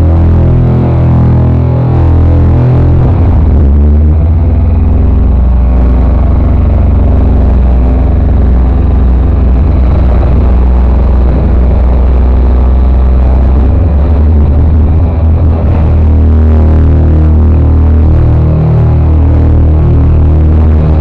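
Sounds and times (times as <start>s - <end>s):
loud live music with distorted bass: 0.0s - 21.0s.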